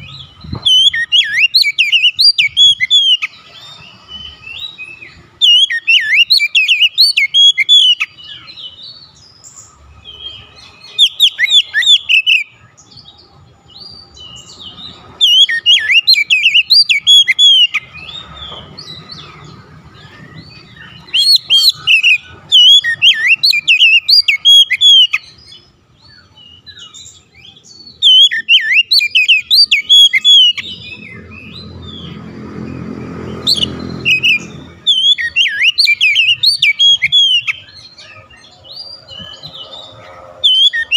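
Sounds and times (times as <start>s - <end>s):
bird singing whistles and chirps: 0.0s - 40.9s.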